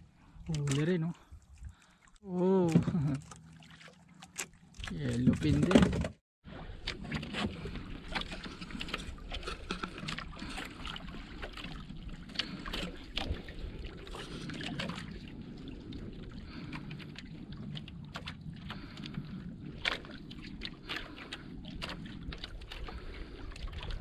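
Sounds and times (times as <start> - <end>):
water lapping against boat: 0.0 - 24.0.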